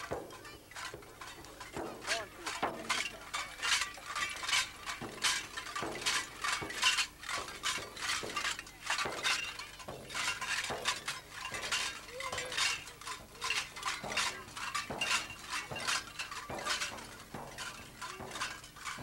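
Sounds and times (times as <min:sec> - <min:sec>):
metal jingles jangling: 0:00.0 - 0:19.0.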